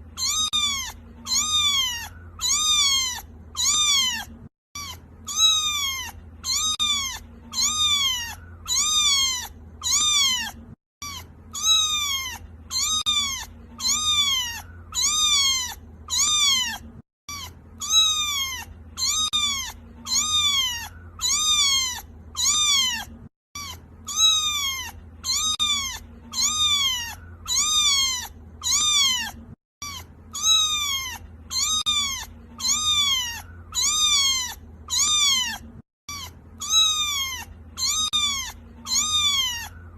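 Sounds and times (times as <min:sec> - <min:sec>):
kitten meowing: 0:00.0 - 0:39.9.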